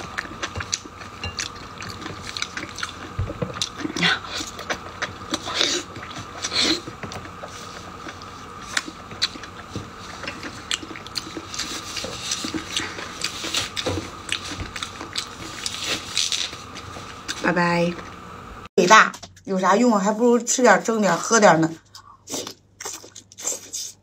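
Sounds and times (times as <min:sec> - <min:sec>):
chewing and biting crunchy food: 0:00.0 - 0:17.4, 0:21.9 - 0:24.0.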